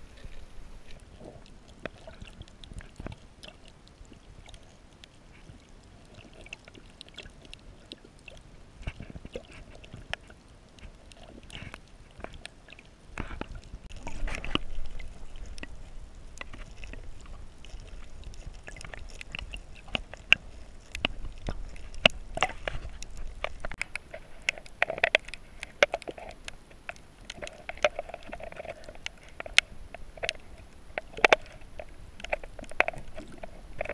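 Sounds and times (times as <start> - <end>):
low rush of water: 0.0 - 33.9
underwater clicks and crackles: 0.0 - 33.9.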